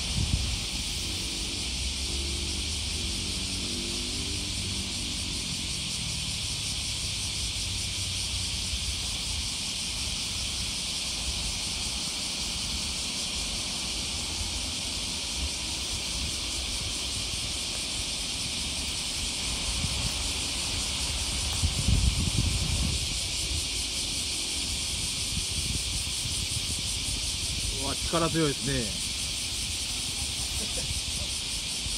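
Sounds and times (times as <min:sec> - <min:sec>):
high-pitched hiss: 0:00.0 - 0:31.9.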